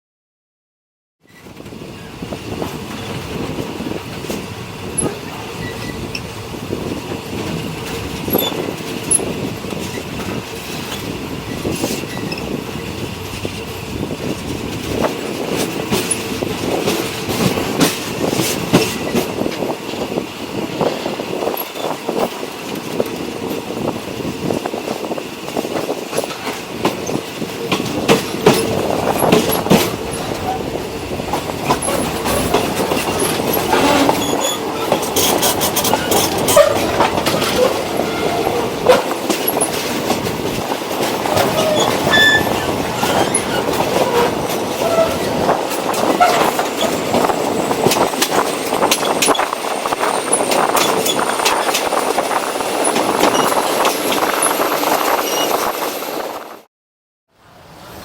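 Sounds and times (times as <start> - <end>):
train rumble: 1.3 - 56.7, 57.4 - 58.0
wheels clacking on rails: 1.3 - 56.7.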